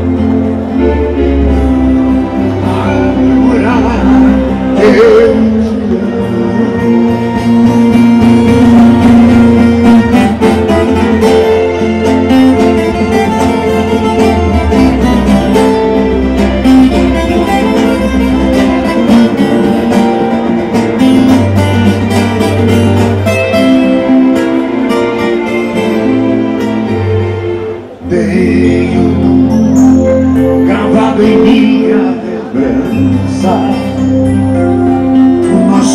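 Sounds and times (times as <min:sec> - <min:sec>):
acoustic guitars plucked: 0:00.0 - 0:35.9
held keyboard notes: 0:00.0 - 0:35.9.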